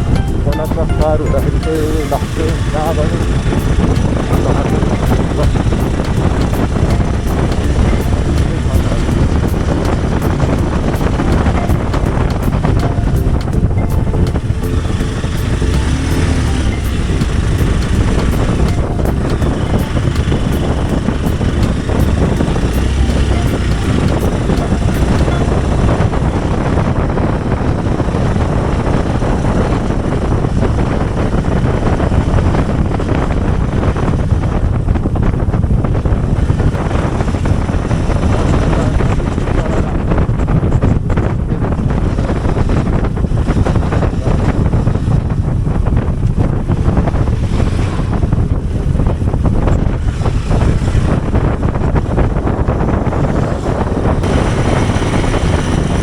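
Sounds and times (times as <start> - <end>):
wind buffeting microphone: 0.0 - 0.2, 0.8 - 56.0
motorcycle engine running: 2.2 - 56.0.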